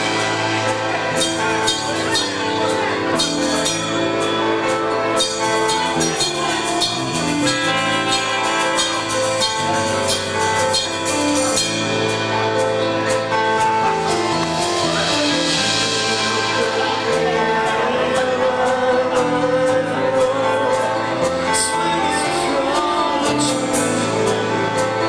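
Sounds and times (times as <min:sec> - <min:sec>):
drum kit beat: 0:00.0 - 0:25.0
rock band playing live: 0:00.0 - 0:25.0.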